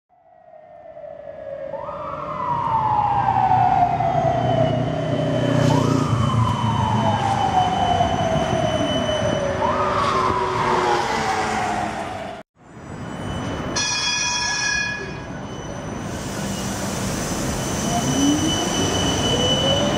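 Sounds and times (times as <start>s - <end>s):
tram drive whining: 0.5s - 19.9s
wheels rumbling on rails: 3.0s - 19.9s.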